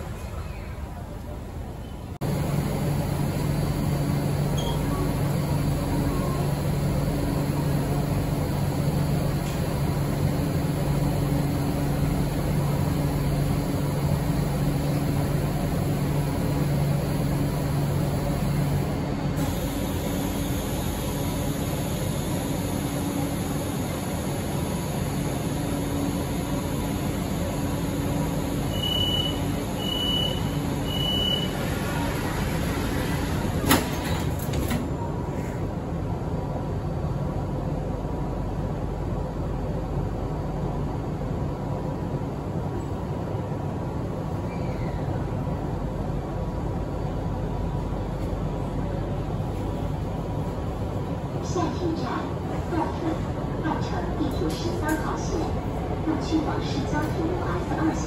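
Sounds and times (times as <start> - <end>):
subway station rumble: 0.0 - 58.0.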